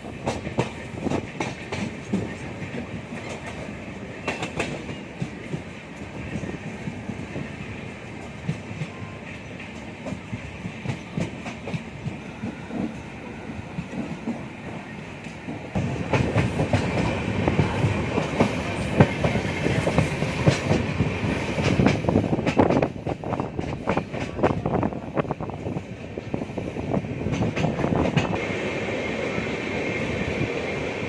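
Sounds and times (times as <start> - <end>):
train wheels clattering over rails: 0.0 - 31.0.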